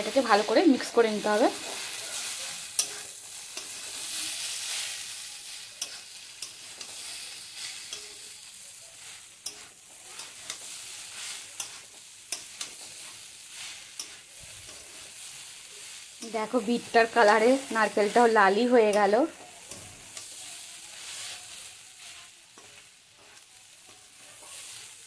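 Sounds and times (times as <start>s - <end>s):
spatula scraping a pan: 0.0s - 25.0s
vegetables sizzling in a pan: 0.0s - 25.0s.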